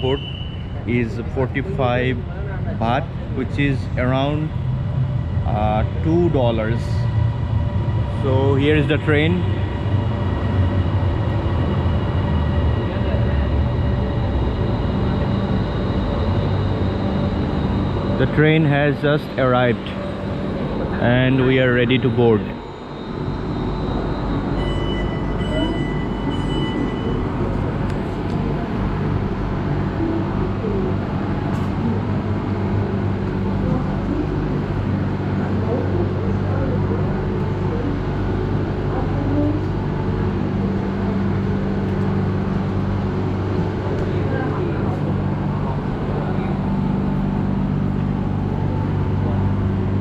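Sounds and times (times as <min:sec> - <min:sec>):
electric train rumble: 0:00.0 - 0:50.0
low drone of steady tones: 0:00.0 - 0:50.0
murmur of passengers: 0:00.0 - 0:50.0
thin high whine: 0:00.0 - 0:50.0.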